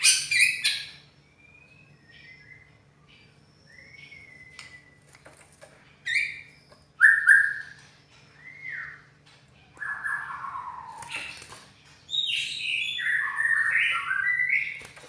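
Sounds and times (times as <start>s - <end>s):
bird singing whistles: 0.0s - 5.2s, 6.1s - 9.1s, 9.8s - 11.3s, 12.1s - 14.8s.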